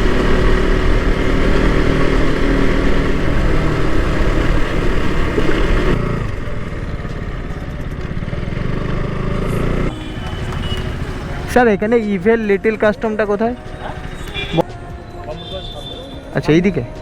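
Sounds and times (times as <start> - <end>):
motorcycle engine running: 0.0 - 17.0
road noise: 0.0 - 17.0
wind: 0.0 - 17.0.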